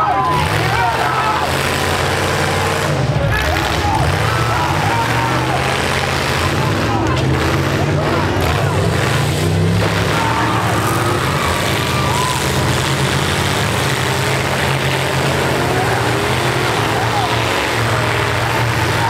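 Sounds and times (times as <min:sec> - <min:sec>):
truck engines droning: 0:00.0 - 0:19.0
voices: 0:00.0 - 0:19.0.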